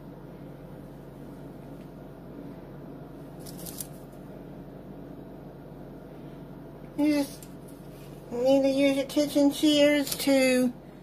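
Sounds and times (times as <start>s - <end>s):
steady low background hum: 0.0s - 11.0s.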